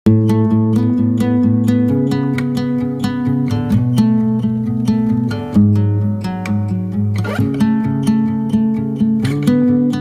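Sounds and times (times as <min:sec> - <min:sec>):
acoustic guitar strumming: 0:00.1 - 0:10.0.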